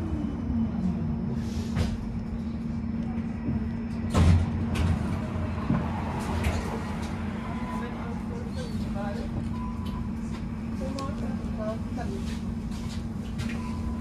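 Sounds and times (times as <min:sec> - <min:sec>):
tram motor whine: 0:00.0 - 0:14.0.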